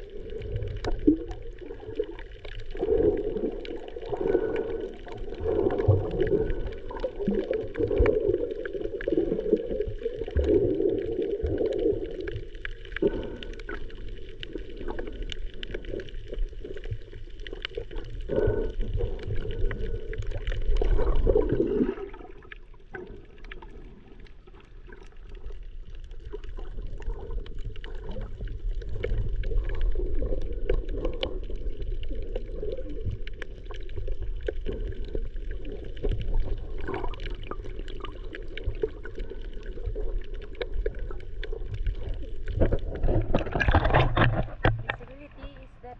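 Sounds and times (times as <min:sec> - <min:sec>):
underwater sloshing and gurgling: 0:00.0 - 0:45.9.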